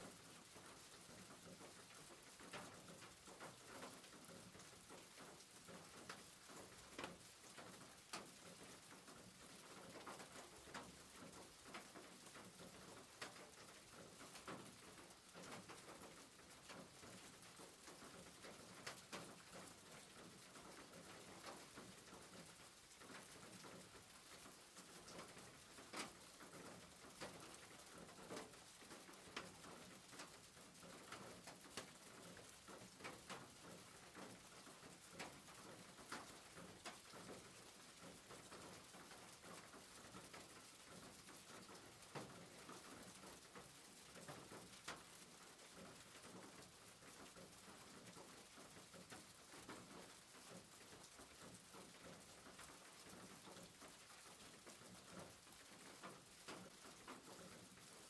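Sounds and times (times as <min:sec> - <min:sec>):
rain drops ticking and splashing: 0:00.0 - 0:58.0
soft rain hiss: 0:00.0 - 0:58.0.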